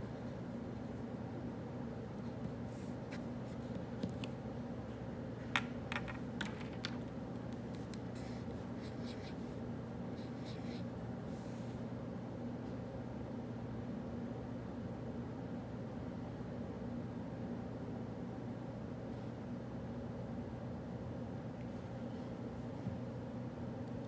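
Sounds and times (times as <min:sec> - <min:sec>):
ventilation hum: 0:00.0 - 0:24.0.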